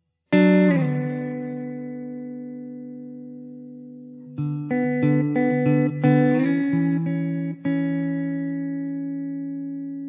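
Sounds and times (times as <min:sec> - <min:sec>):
strummed guitar chords: 0:00.3 - 0:10.0.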